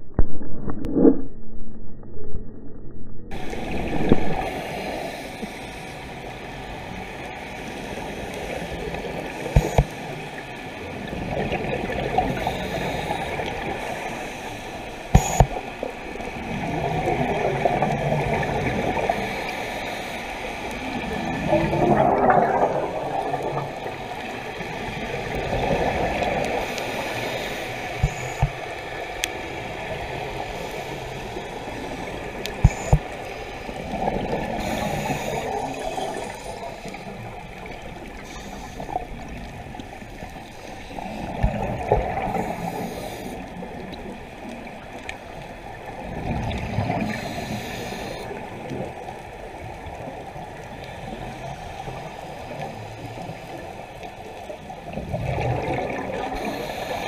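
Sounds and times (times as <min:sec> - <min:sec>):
underwater bubbles gurgling: 0:00.0 - 0:57.0
underwater hiss: 0:03.4 - 0:54.1, 0:54.9 - 0:57.0.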